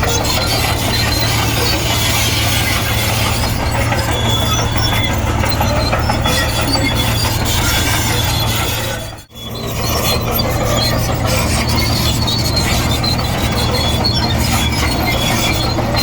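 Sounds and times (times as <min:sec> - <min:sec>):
bulldozer diesel engine running: 0:00.0 - 0:16.0
steel tracks clattering and squealing: 0:00.0 - 0:16.0.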